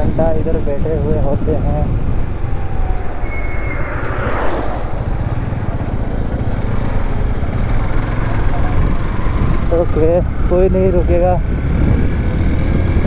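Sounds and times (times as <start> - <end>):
motorcycle engine running: 0.0 - 13.0
wind rumble on microphone: 0.0 - 13.0.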